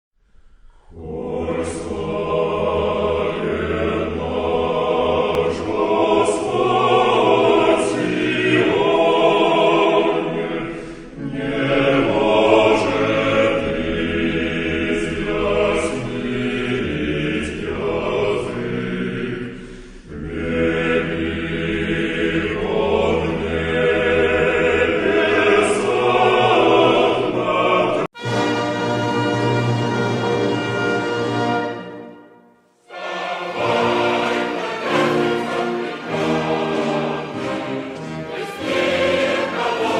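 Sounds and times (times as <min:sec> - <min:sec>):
choir singing: 0:00.8 - 0:39.9.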